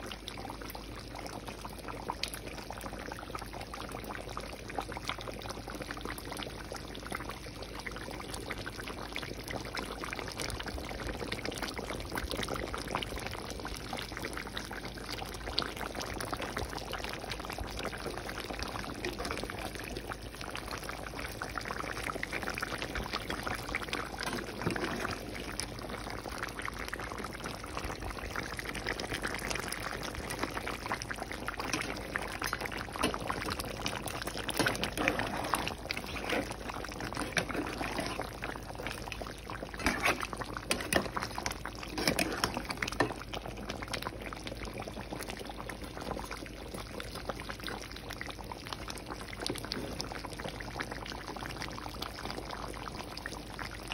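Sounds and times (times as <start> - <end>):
curry bubbling in a pan: 0.0 - 53.9.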